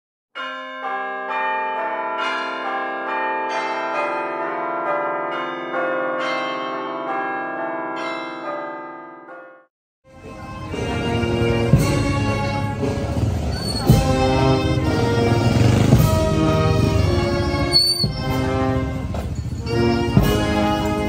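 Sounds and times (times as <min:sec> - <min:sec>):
church bells ringing: 0:00.4 - 0:21.0.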